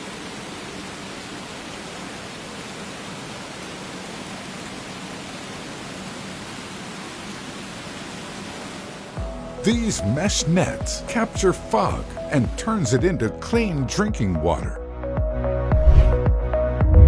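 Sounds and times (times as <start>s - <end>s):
steady broadband hiss: 0.0s - 14.7s.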